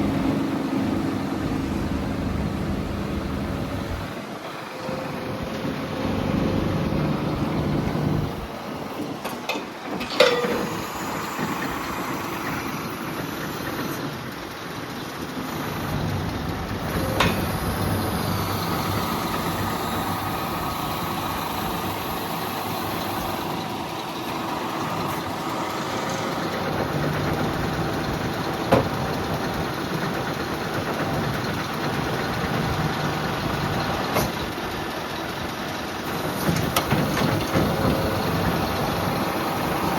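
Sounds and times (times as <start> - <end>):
diesel truck engine idling: 0.0 - 9.2, 10.7 - 39.9.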